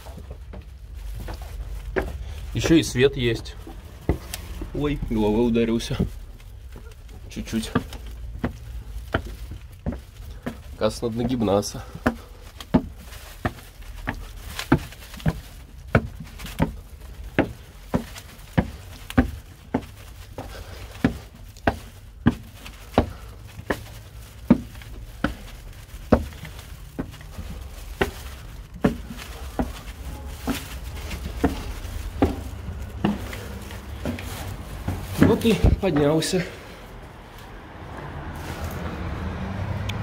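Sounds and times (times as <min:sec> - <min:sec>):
footsteps climbing brick stairs: 0:00.0 - 0:40.0.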